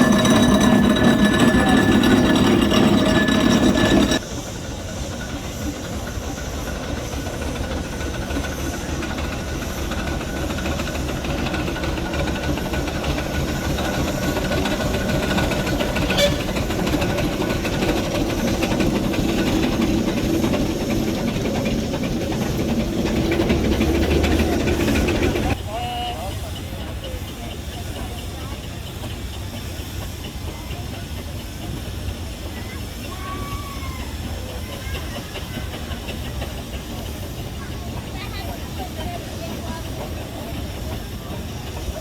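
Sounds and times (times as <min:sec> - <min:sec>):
steam engines hissing and running: 0:00.0 - 0:42.0.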